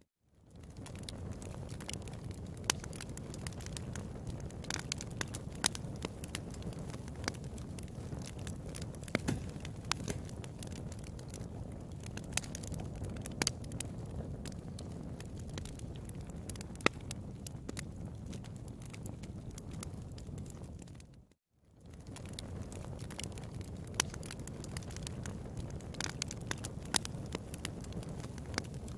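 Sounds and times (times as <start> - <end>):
fire popping and snapping: 0.4 - 28.9
fire flames rushing: 0.5 - 21.2, 21.8 - 28.9.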